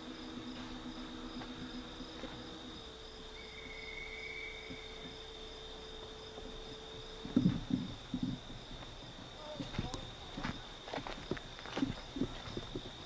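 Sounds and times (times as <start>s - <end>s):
high insect trill: 0.0s - 13.0s
low steady hum: 0.0s - 13.0s.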